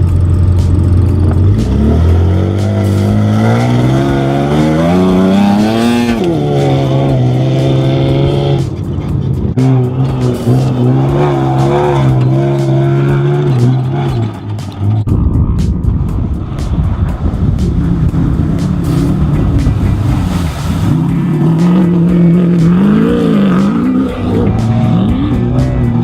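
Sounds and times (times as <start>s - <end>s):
truck engine accelerating: 0.0s - 26.0s.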